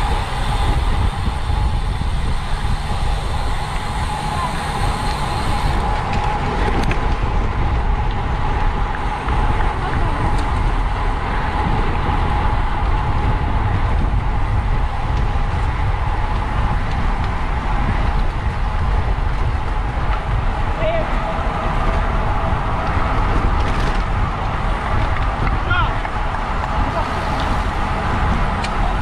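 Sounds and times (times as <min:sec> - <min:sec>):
steady whine: 0:00.0 - 0:29.0
wind buffeting microphone: 0:00.0 - 0:29.0.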